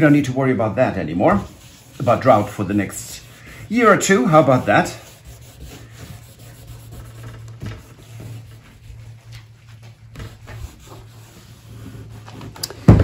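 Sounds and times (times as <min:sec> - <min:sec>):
cloth rubbing wax into wood: 0:00.0 - 0:12.8
steady low hum: 0:00.0 - 0:13.0.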